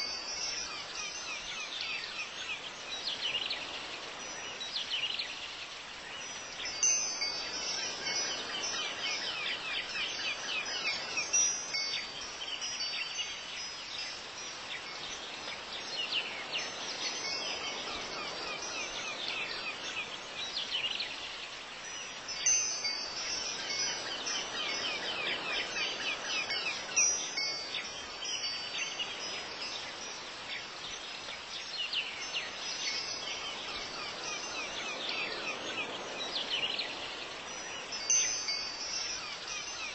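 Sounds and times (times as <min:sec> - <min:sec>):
wind chimes tinkling: 0:00.0 - 0:39.9.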